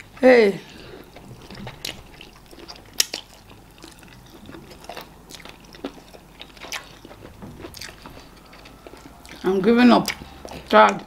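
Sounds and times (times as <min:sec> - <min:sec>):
chewing mouth sounds: 0:00.8 - 0:11.0.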